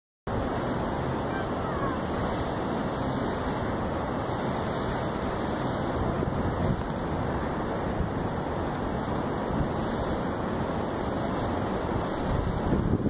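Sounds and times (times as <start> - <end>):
wind buffeting microphone: 0.3 - 13.0.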